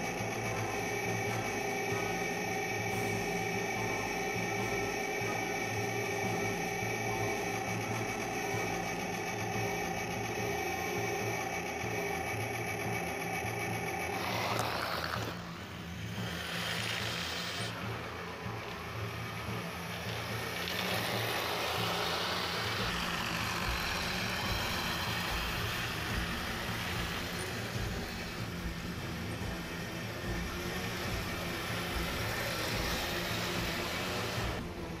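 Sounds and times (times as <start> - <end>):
gearbox and tracks whirring: 0.0 - 35.0
simulated tank engine rumble: 0.0 - 35.0.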